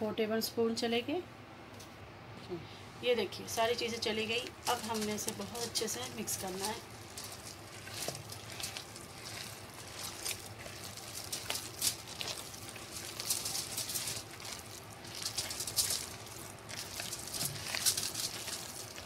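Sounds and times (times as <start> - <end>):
hands kneading wet mince: 3.0 - 19.0.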